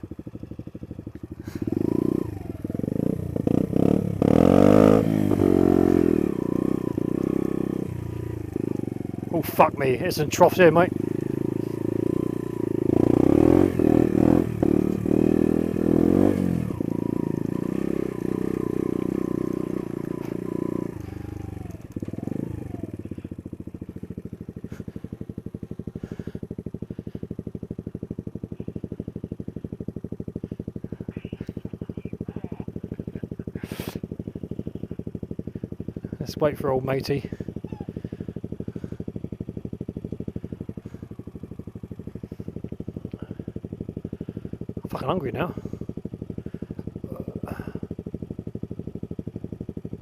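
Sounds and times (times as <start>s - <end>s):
trail bike engine: 0.0s - 50.0s.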